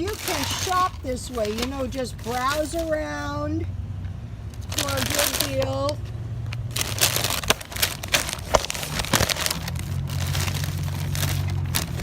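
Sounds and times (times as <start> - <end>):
plastic packaging crinkling: 0.0 - 3.0, 4.5 - 12.0.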